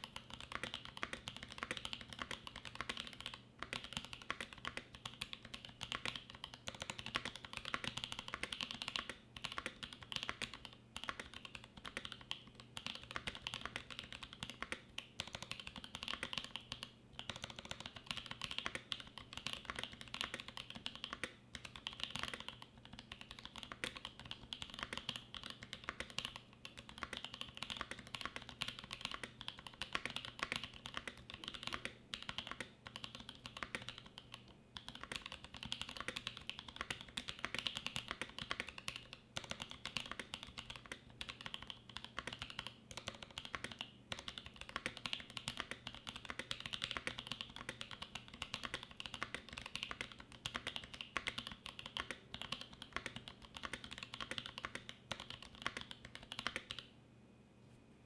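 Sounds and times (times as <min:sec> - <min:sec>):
mechanical keyboard typing: 0:00.0 - 0:56.9.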